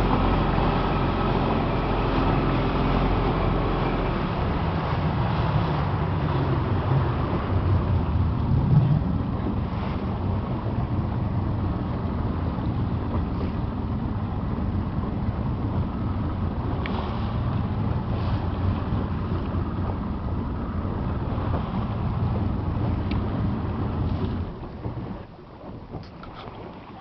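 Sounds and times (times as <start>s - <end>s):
motorboat engine rumble: 0.0s - 27.0s
water against hull: 0.0s - 27.0s
wind buffeting microphone: 0.0s - 27.0s.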